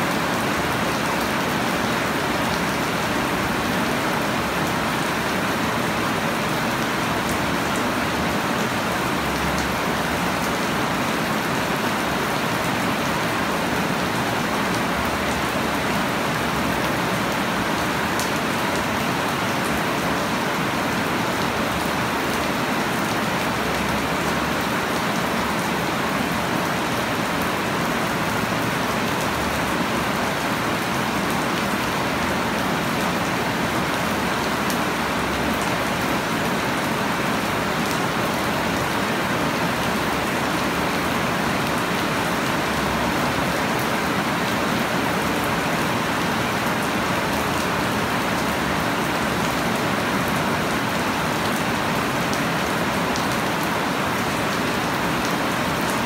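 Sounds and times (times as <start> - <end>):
heavy rain on leaves and soil: 0.0 - 56.0.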